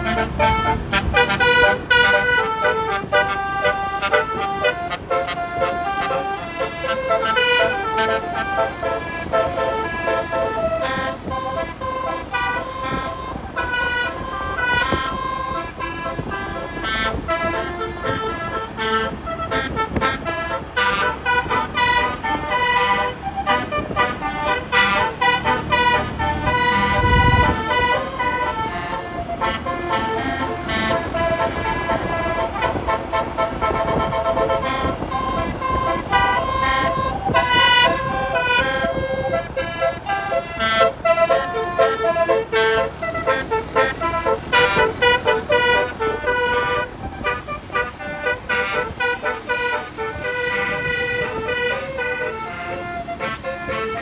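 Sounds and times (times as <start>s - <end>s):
musical bus air horn: 0.0s - 54.0s.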